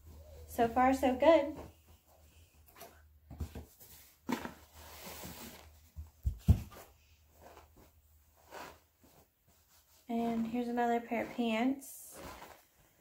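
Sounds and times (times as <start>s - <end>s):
clothing and packaging rustling: 0.0s - 13.0s.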